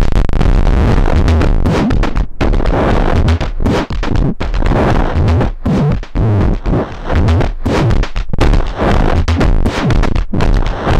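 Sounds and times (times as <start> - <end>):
distorted electronic noise music: 0.0 - 10.9.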